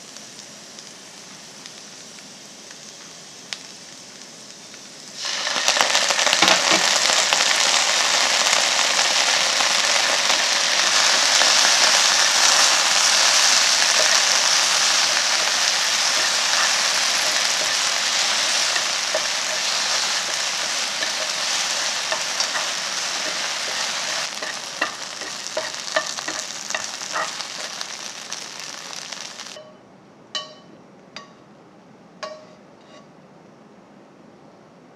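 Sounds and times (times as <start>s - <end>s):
vegetables sizzling in a frying pan: 0.0s - 29.8s.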